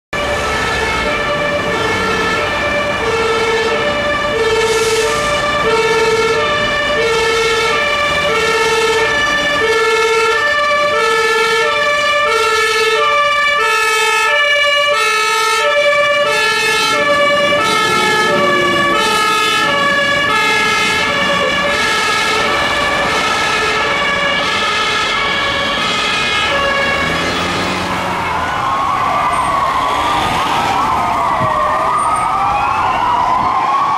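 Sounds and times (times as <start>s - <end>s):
rising and falling siren: 0.1s - 33.9s
two-tone fire truck siren: 0.1s - 33.9s.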